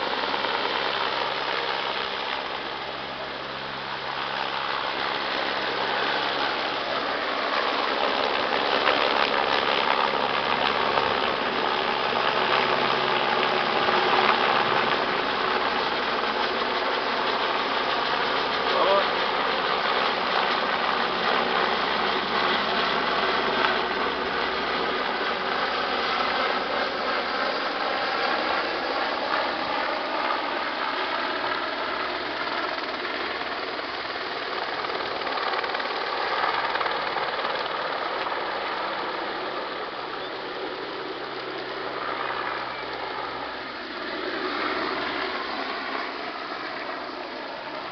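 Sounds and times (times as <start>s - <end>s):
helicopter rotor and turbine roar: 0.0s - 47.9s.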